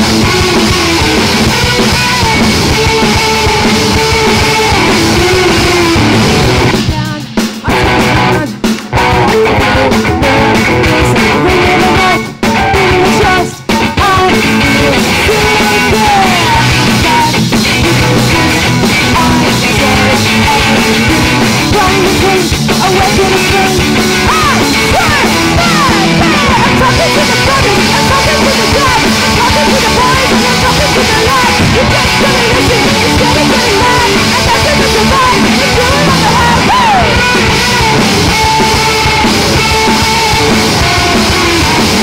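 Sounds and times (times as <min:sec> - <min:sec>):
bass guitar: 0:00.0 - 0:42.0
drum kit with cymbals: 0:00.0 - 0:42.0
electric guitars: 0:00.0 - 0:42.0.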